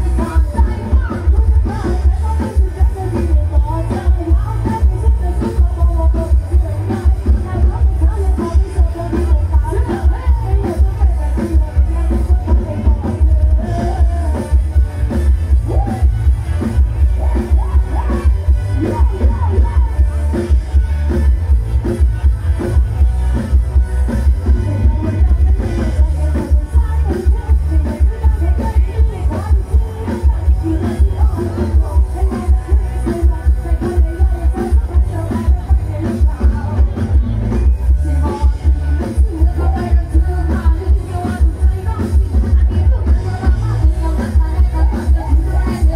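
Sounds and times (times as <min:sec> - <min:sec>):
woman singing into microphone: 0:00.0 - 0:14.6, 0:17.2 - 0:20.1, 0:24.4 - 0:45.9
crowd noise: 0:00.0 - 0:45.9
heavy bass beat: 0:00.0 - 0:45.9.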